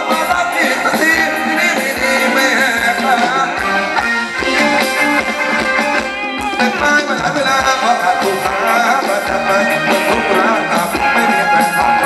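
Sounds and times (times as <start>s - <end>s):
drum beat: 0.0s - 12.0s
live band music: 0.0s - 12.0s.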